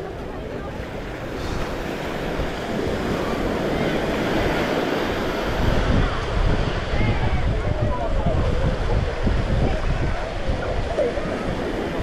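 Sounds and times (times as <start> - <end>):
small waves washing onto sand: 0.0 - 12.0
wind buffeting microphone: 0.0 - 12.0.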